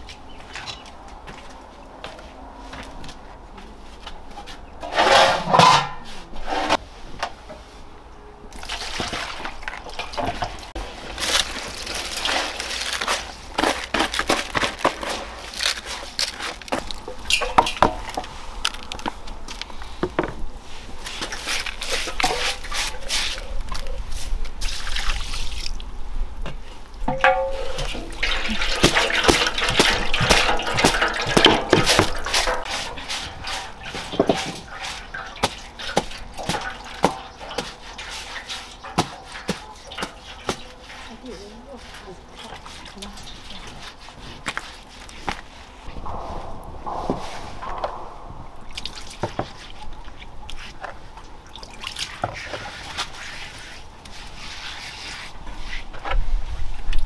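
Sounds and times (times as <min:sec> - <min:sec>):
water splashing and sloshing: 0:00.0 - 0:07.8, 0:08.5 - 0:57.0.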